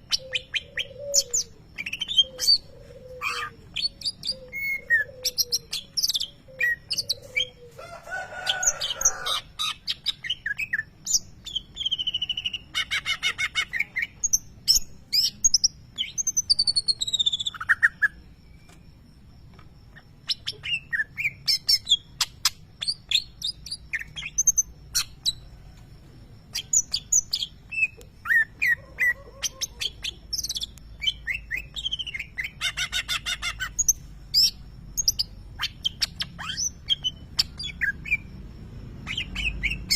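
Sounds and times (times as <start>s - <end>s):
bird singing chirps and trills: 0.0s - 7.8s, 9.0s - 18.8s, 19.8s - 25.5s, 26.4s - 39.9s.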